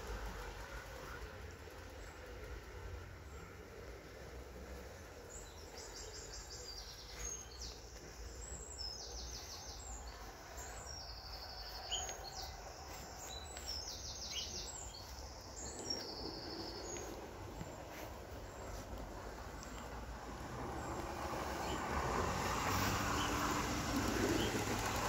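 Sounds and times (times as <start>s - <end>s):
songbirds trilling: 0.0s - 25.0s.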